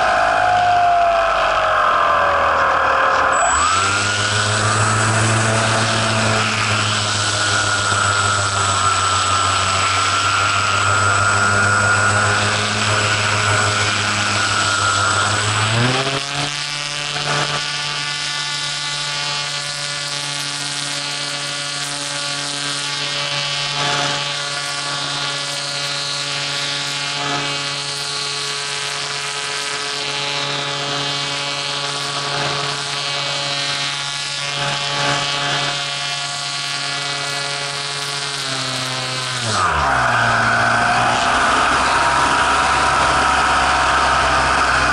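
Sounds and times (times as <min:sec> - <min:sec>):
model airplane motor and propeller: 0:00.0 - 0:44.9.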